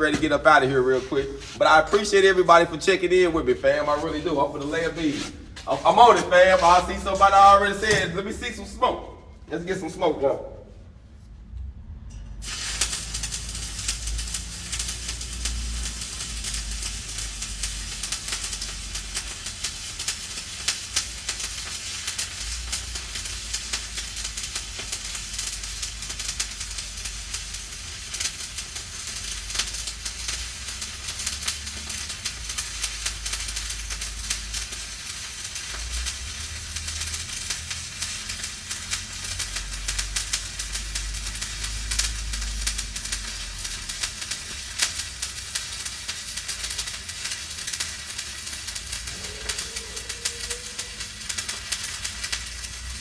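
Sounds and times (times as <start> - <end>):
welding arc crackling: 0.0 - 10.2, 12.4 - 53.0.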